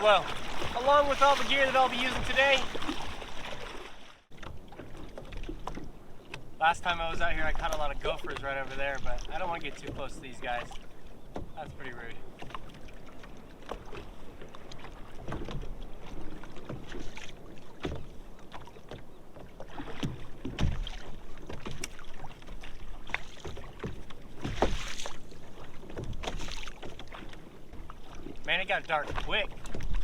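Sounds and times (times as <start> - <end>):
paddle strokes splashing water: 0.0 - 30.0.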